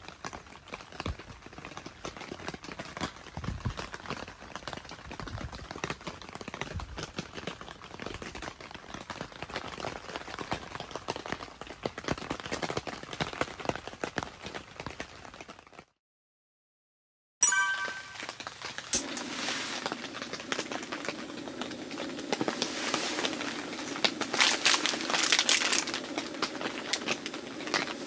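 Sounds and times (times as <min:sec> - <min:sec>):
rain pattering on tent fabric: 0:00.0 - 0:16.0, 0:18.3 - 0:28.0.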